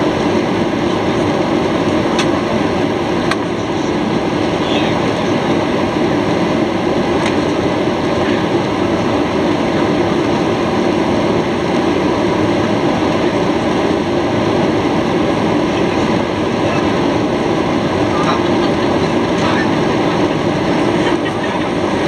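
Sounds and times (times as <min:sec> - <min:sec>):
jet engine drone: 0:00.0 - 0:22.0.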